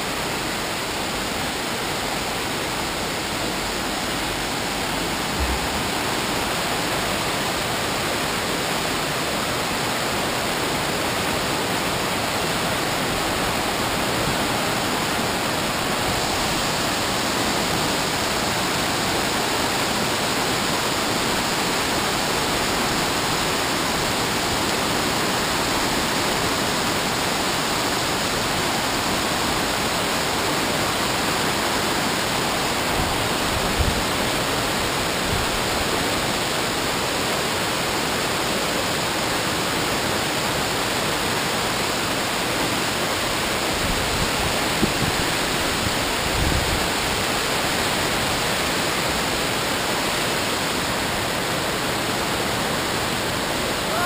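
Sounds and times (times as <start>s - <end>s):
fast river rushing: 0.0s - 54.0s
waterfall roaring: 0.0s - 54.0s.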